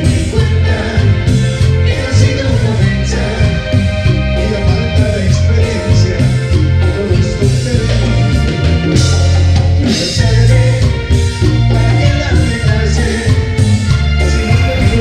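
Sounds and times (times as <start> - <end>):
band playing romantic ballad: 0.0 - 15.0.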